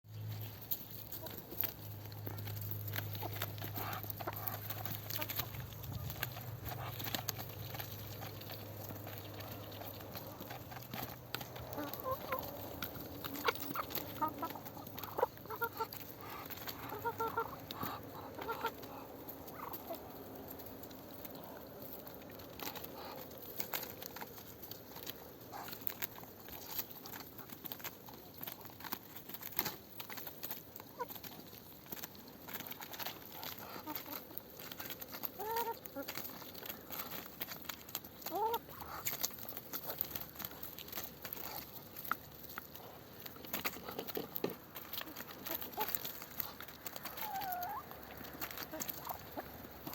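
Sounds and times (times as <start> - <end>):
birds pecking at lettuce: 0.0 - 49.9.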